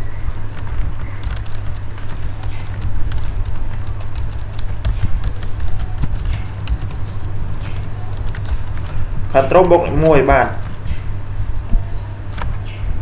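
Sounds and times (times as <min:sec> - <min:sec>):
keyboard typing: 0:00.0 - 0:11.1
low electrical hum: 0:00.0 - 0:13.0.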